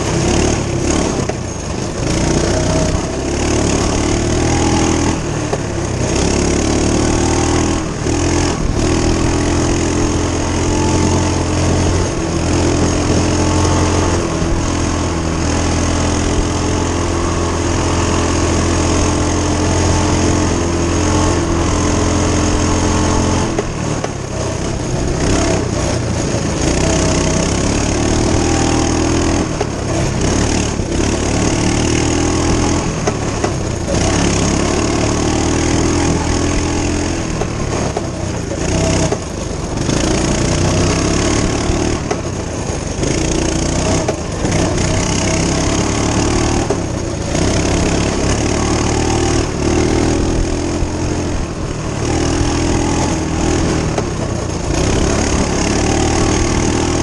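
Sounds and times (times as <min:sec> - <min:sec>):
minibike engine running: 0:00.0 - 0:57.0.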